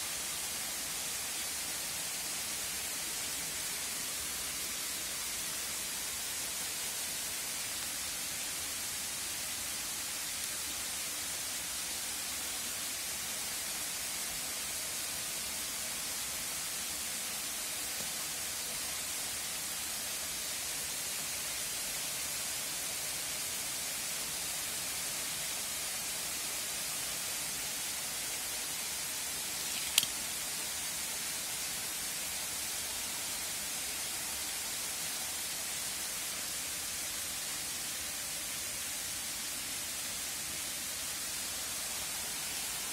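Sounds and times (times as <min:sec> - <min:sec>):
steady high hiss: 0:00.0 - 0:42.9.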